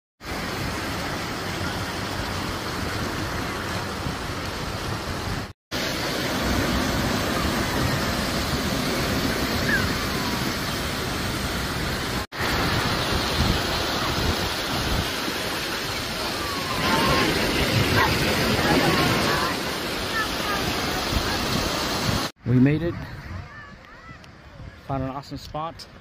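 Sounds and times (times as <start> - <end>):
water rushing down cascades: 0.2 - 22.3
wind on microphone: 2.9 - 26.0.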